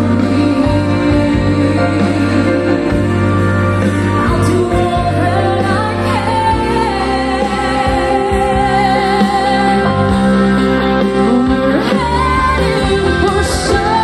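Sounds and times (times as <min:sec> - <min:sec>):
person singing: 0:00.0 - 0:10.3, 0:11.0 - 0:14.0
steady bass notes: 0:00.0 - 0:14.0.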